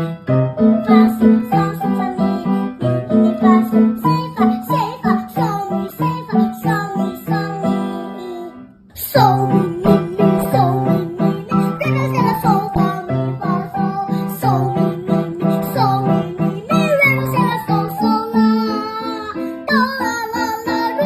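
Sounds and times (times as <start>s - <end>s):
bouncy children's tune: 0.0s - 21.0s
person singing melody: 0.0s - 21.0s.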